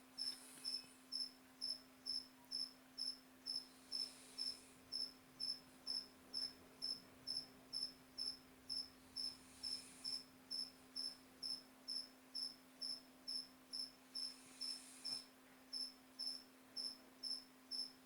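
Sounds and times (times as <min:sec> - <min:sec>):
faint low hum: 0:00.0 - 0:18.0
cricket chirping: 0:00.2 - 0:18.0.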